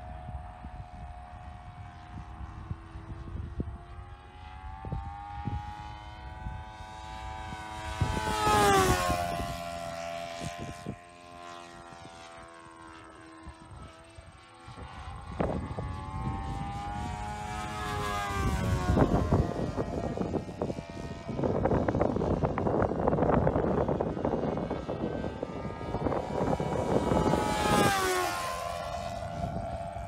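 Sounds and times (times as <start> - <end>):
model airplane engine droning: 0.0 - 30.0.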